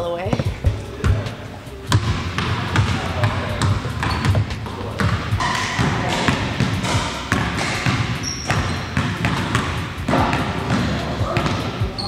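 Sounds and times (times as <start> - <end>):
basketballs bouncing on hardwood: 0.3 - 1.3, 1.9 - 12.0.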